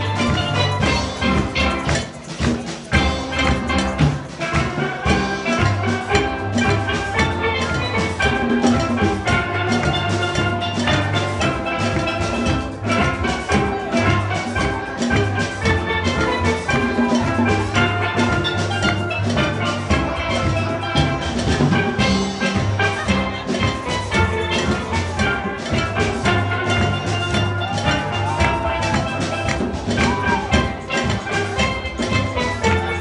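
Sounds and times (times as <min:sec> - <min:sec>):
drums keeping a beat: 0:00.0 - 0:33.0
steel pans playing melody: 0:00.0 - 0:33.0.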